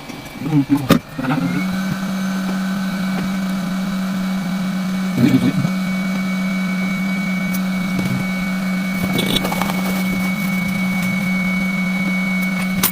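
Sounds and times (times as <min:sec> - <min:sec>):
machine hum: 0:00.0 - 0:12.9
thin high whine: 0:00.0 - 0:12.9.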